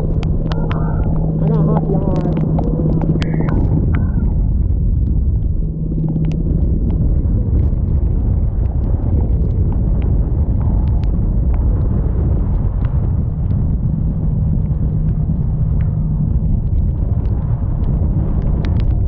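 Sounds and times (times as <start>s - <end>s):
boat engine rumbling: 0.0s - 19.0s
rain and spray ticking: 0.0s - 19.0s
wind buffeting microphone: 0.0s - 19.0s.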